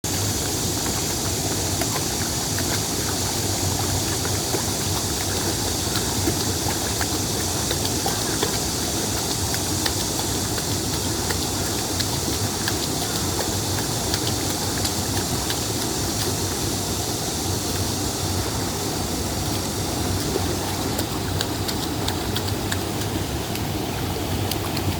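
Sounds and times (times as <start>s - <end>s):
stream rushing over rocks: 0.0s - 24.9s
small water splashes: 0.1s - 24.9s.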